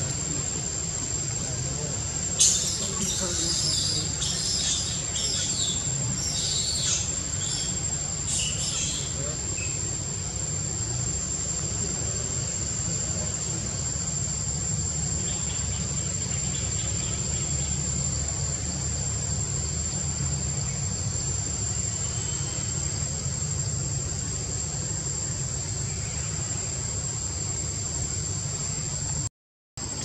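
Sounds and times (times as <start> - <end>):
continuous low rumble: 0.0 - 30.0
insects droning: 0.0 - 30.0.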